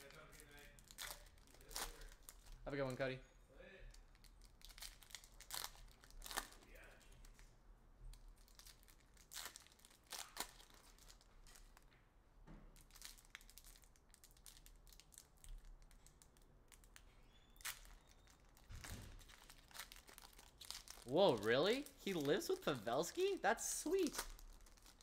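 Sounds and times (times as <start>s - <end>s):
wrappers crinkling: 0.0s - 3.0s, 3.9s - 7.5s, 8.1s - 11.8s, 12.8s - 25.0s.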